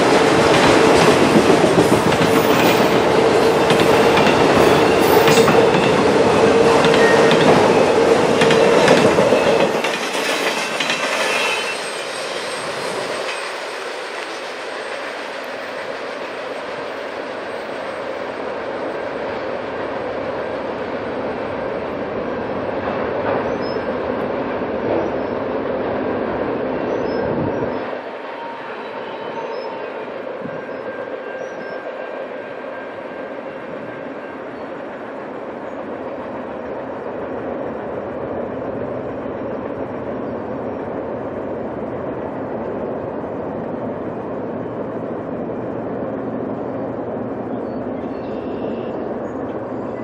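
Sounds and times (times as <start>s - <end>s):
freight train rolling on rails: 0.0s - 50.0s.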